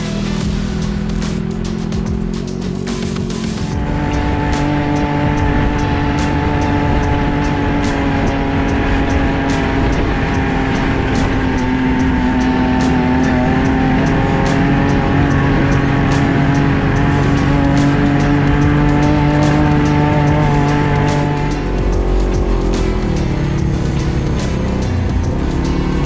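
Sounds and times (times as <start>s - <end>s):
utility vehicle engine droning: 0.0s - 26.0s.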